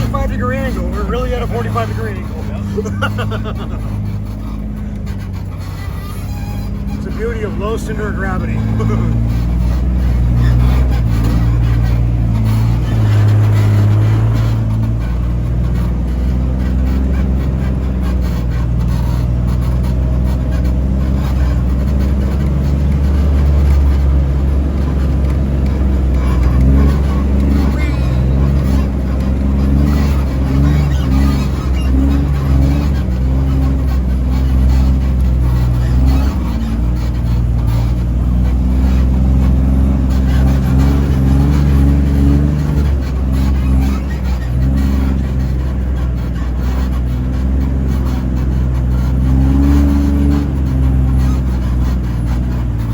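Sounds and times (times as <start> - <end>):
vehicle engine low drone: 0.0 - 52.9.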